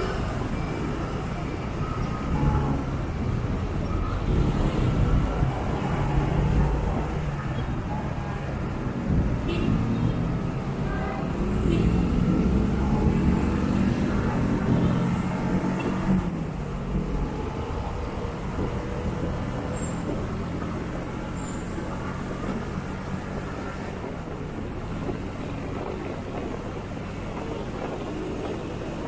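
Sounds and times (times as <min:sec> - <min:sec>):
city road traffic: 0:00.0 - 0:29.0.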